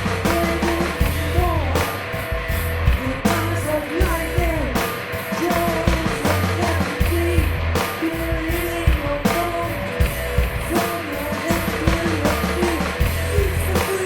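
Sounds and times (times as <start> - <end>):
bass guitar: 0.0 - 14.0
steady drum beat: 0.0 - 14.0.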